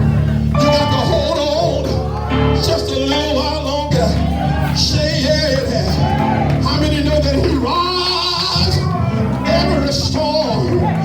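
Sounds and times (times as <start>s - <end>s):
sustained keyboard chords: 0.0s - 11.0s
person singing: 0.5s - 11.0s.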